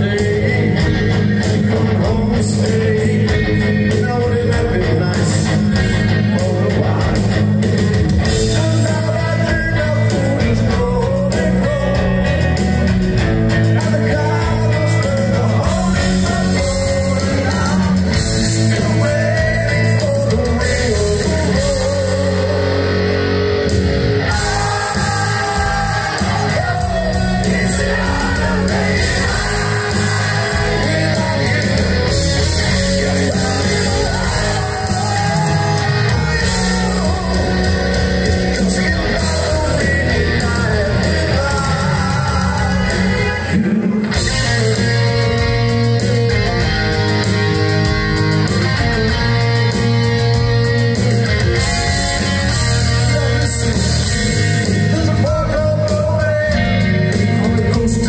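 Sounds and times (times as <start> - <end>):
man singing: 0.0 - 23.2, 24.2 - 46.2, 51.6 - 58.0
live hard rock band: 0.0 - 58.0.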